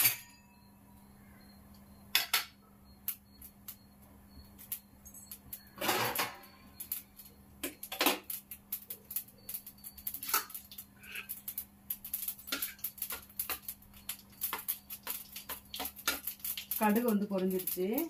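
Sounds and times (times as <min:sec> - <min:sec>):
low steady hum: 0:00.0 - 0:18.0
seeds popping in hot oil: 0:01.7 - 0:18.0.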